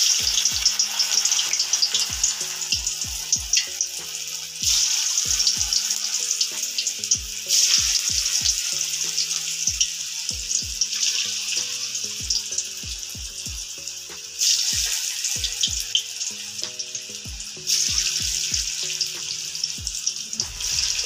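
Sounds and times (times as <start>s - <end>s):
batter deep-frying in oil: 0.0s - 21.0s.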